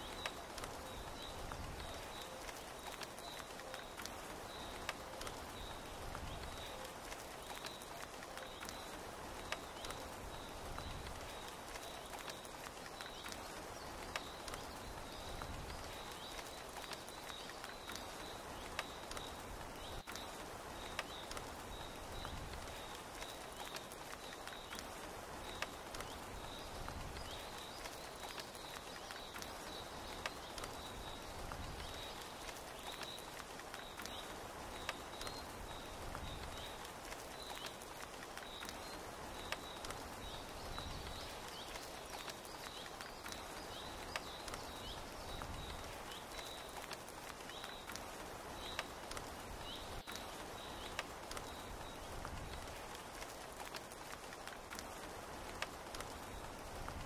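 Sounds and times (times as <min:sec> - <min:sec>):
steady rain: 0:00.0 - 0:57.0
water dripping: 0:00.0 - 0:57.0.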